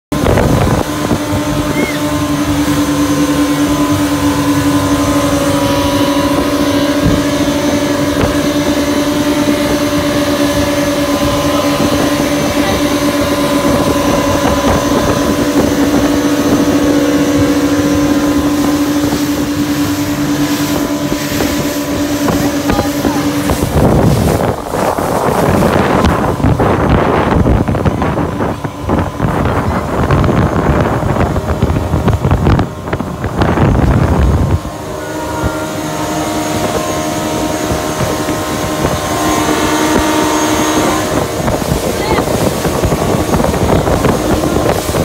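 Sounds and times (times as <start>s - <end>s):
boat engine drone: 0.0s - 45.0s
water rushing past: 0.1s - 45.0s
wind on microphone: 0.1s - 45.0s.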